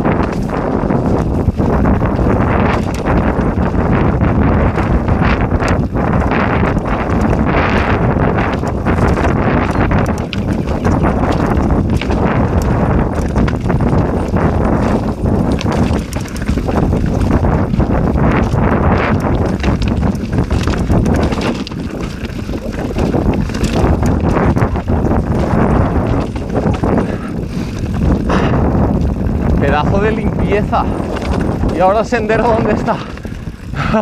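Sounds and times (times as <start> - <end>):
bike knocks and rattles: 0.0 - 34.0
bike tyre noise on dirt: 0.0 - 34.0
wind buffeting microphone: 0.0 - 34.0.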